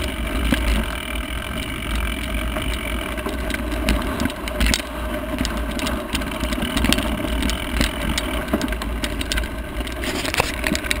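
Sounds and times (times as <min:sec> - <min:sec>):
mountain bike rattling and clicking: 0:00.0 - 0:11.0.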